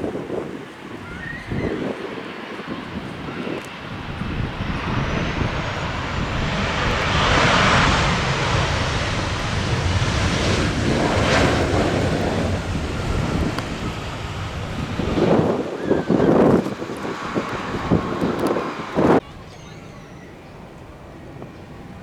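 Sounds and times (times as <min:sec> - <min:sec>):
jet airliner engines roaring: 0:00.0 - 0:22.0
wind buffeting microphone: 0:00.0 - 0:22.0.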